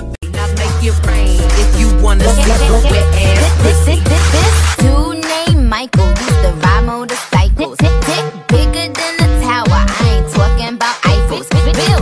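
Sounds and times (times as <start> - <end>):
music with heavy bass: 0.0 - 12.0.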